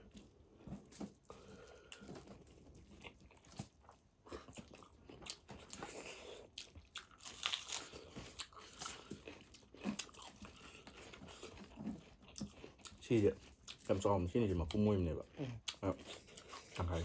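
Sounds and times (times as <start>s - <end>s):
person biting and chewing: 0.0s - 13.8s.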